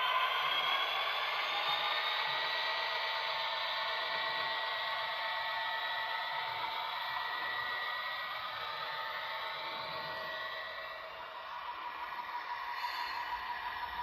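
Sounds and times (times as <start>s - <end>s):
model train motor whine: 0.0s - 14.0s.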